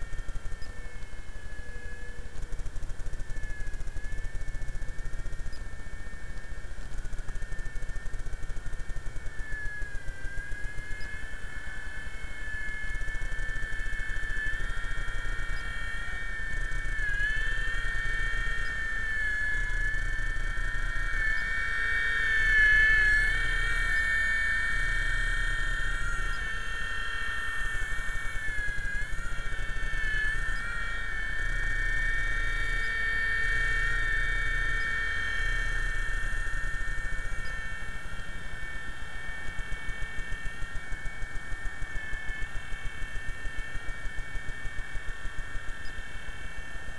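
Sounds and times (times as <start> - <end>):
toy helicopter motor whining: 0.0 - 46.9.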